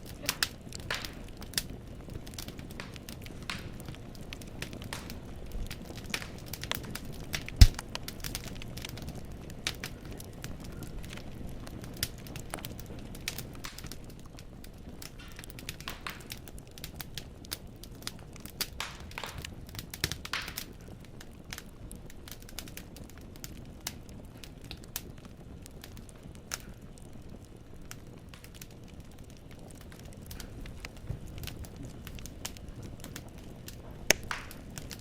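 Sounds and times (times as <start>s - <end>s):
logs crackling and popping: 0.0s - 35.0s
low rumble of flames: 0.0s - 35.0s.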